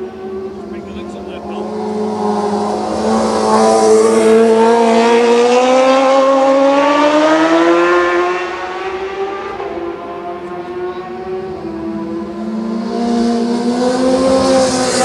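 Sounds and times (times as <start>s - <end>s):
racing motorcycle passing: 0.0s - 15.0s.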